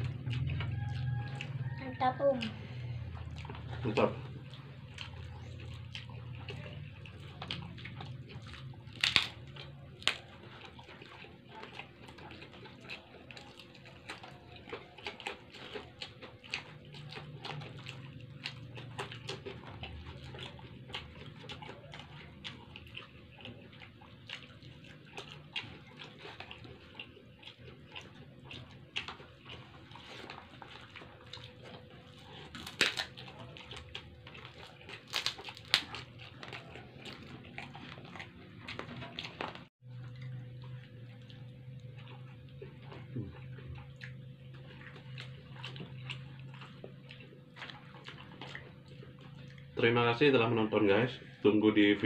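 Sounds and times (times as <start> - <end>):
wet chewing: 0.0 - 52.0.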